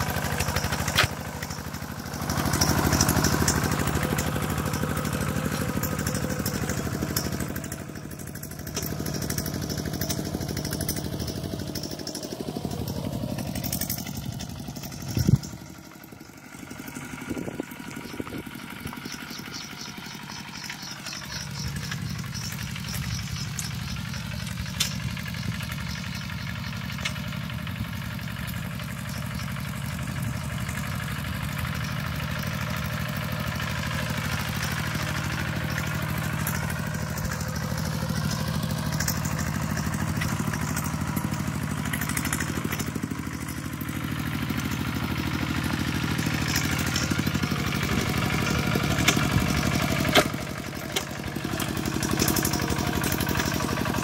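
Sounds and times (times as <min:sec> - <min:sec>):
clanks of tractor wheels: 0:00.0 - 0:54.0
diesel tractor engine running: 0:00.0 - 0:54.0.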